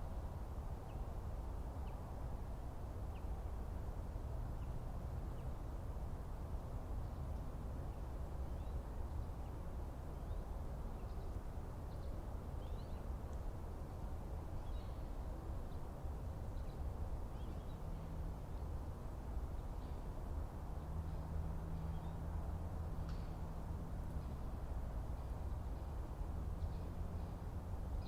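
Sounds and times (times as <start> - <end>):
low rumble of background noise: 0.0 - 28.0
low steady hum: 0.0 - 28.0.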